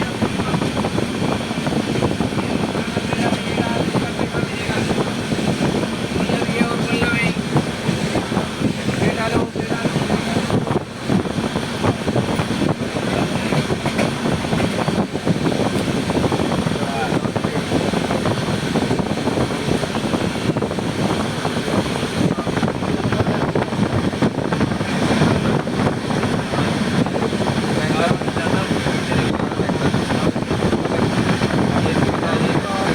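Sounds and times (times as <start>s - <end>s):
train wheels rumbling on rails: 0.0s - 32.9s.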